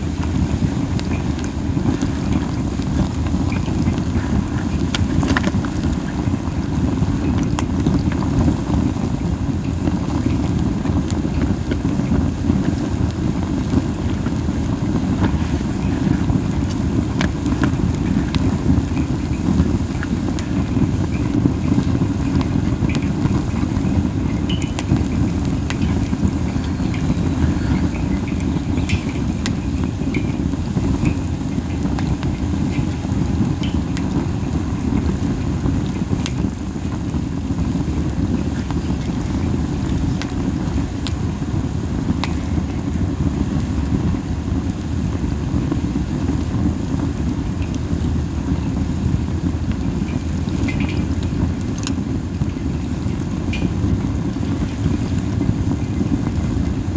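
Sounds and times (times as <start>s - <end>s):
fire crackles and pops: 0.0s - 56.9s
flames and wind rushing: 0.0s - 56.9s.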